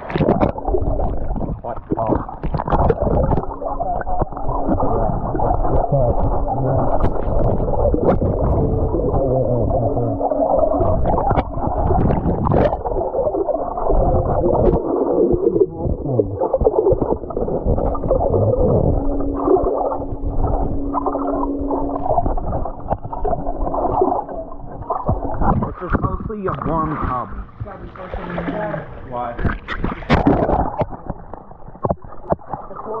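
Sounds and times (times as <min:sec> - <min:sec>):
underwater water churning: 0:00.0 - 0:33.0
low hum: 0:00.4 - 0:32.5.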